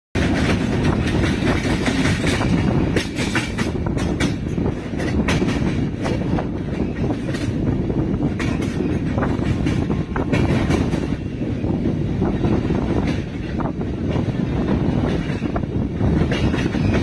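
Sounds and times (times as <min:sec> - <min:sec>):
train wheels rumbling on rails: 0:00.2 - 0:17.0
wheels clacking over rail joints: 0:00.2 - 0:17.0.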